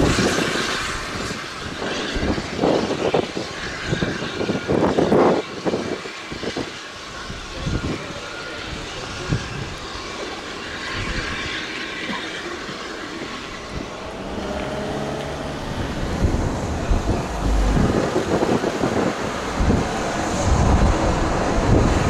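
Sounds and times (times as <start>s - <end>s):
steam train running: 0.0s - 22.0s.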